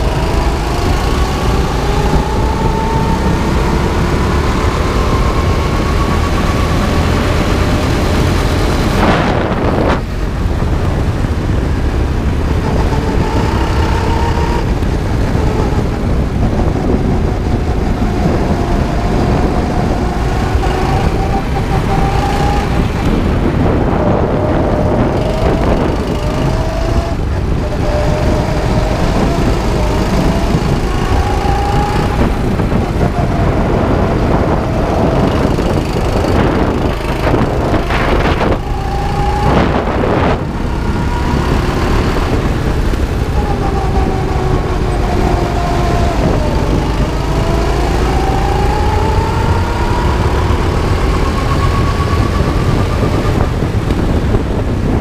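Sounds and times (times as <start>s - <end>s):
go-kart engine running hard: 0.0s - 55.0s
tyre and wind noise: 0.0s - 55.0s.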